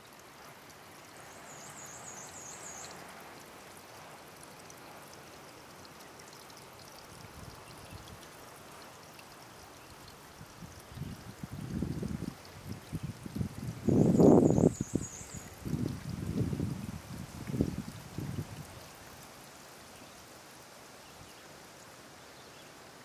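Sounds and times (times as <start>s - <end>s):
water trickling and lapping: 0.0s - 23.0s.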